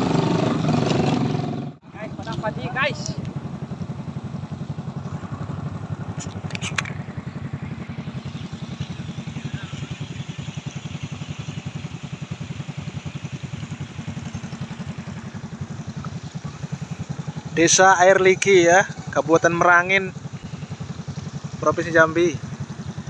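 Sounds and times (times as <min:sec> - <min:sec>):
small motorcycle engine running: 0:00.0 - 0:23.0.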